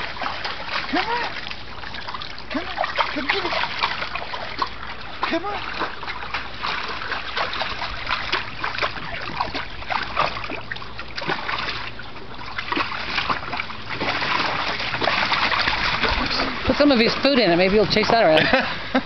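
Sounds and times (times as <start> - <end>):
dog splashing in water: 0.0 - 18.6.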